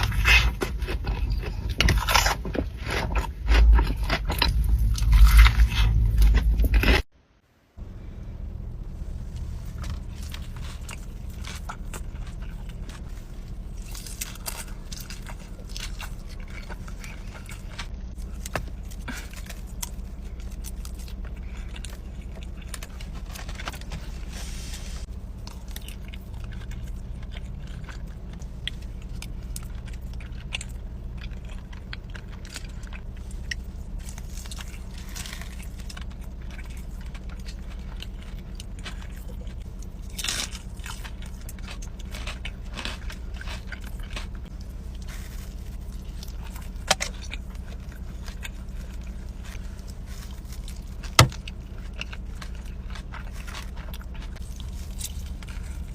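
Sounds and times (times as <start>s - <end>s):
crunchy chewing: 0.0s - 7.1s, 9.3s - 24.3s, 25.0s - 55.9s
steady low hum: 0.0s - 55.9s.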